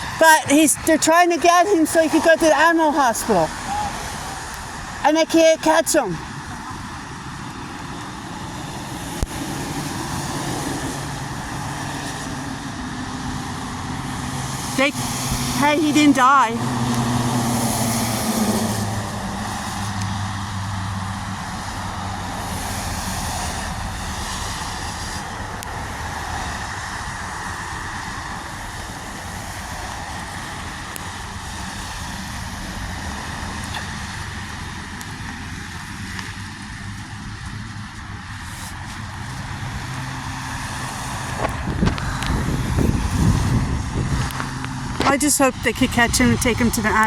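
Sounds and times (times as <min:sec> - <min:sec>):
roadside traffic noise: 0:00.0 - 0:47.0.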